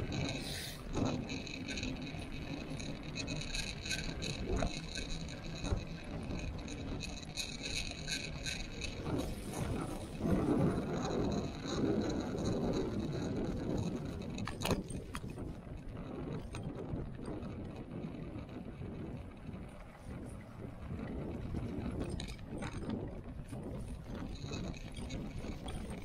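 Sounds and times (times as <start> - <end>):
bike clicks and rattles: 0.0 - 26.0
tyre and wind rumble: 0.0 - 26.0.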